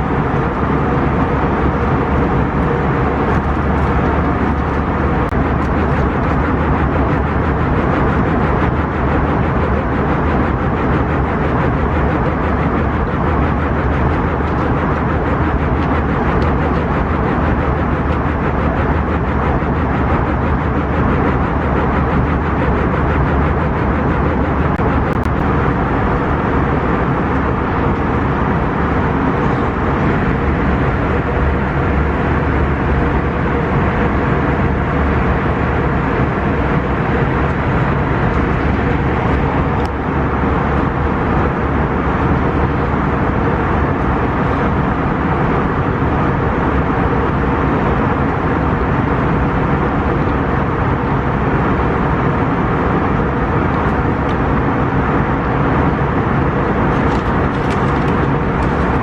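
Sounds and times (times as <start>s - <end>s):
loud low rumbling: 0.0s - 59.0s.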